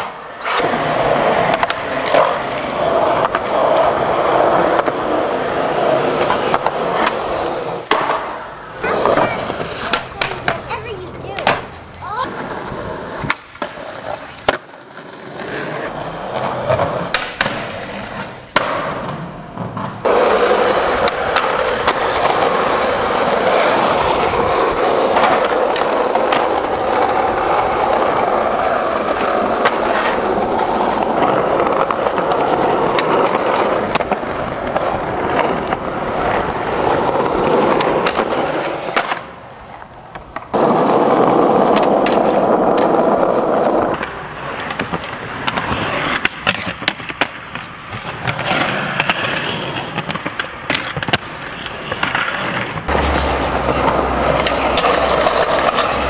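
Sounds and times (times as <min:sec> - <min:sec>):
skateboard clacks: 0:00.0 - 0:56.0
skateboard wheels rolling on asphalt: 0:00.0 - 0:56.0.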